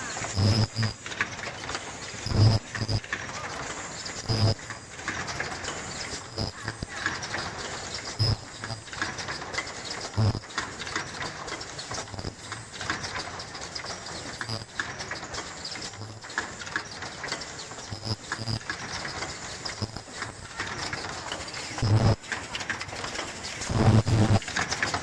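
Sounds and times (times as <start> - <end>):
production line mechanical clatter: 0.0 - 25.0.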